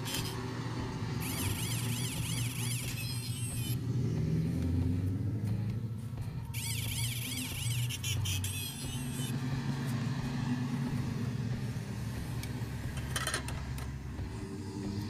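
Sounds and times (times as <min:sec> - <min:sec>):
low engine-like drone: 0:00.0 - 0:15.0.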